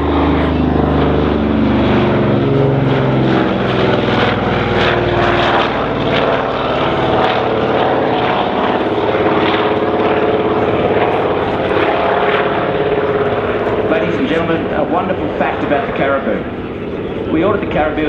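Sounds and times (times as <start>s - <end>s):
propeller aircraft engine drone: 0.0s - 18.0s.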